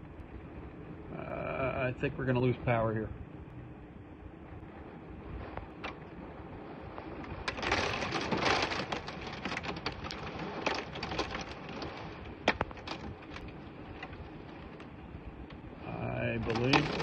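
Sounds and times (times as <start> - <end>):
wind-driven rain rushing: 0.0 - 17.0.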